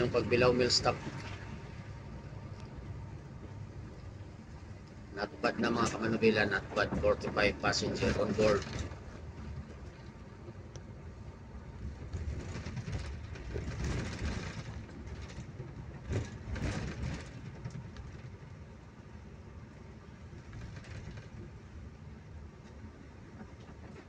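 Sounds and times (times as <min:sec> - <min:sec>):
rattling and clatter: 0:00.0 - 0:10.8, 0:11.6 - 0:18.8, 0:20.3 - 0:21.7
bus engine and road rumble: 0:00.0 - 0:24.0.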